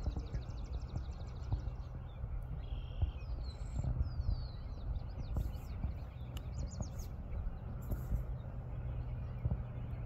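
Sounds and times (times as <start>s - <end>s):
low rumble: 0.0s - 10.0s
small birds chirping: 0.0s - 10.0s.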